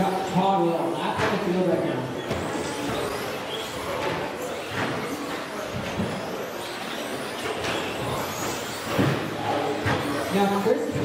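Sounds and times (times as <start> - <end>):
rc truck motors whining: 2.1 - 11.0.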